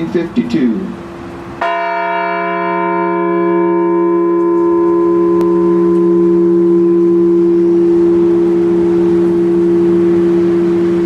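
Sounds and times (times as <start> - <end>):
large bell ringing: 1.6 - 11.0.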